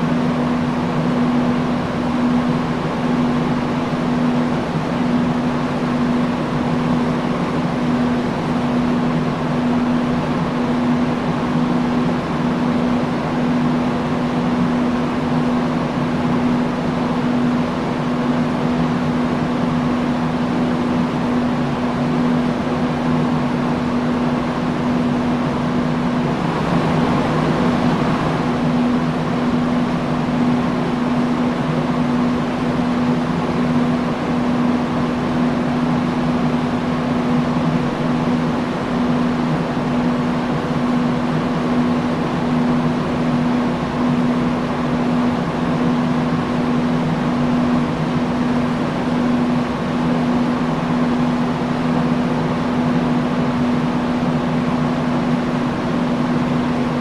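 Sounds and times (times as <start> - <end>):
industrial fan air rush: 0.0 - 57.0
low motor hum: 0.0 - 57.0.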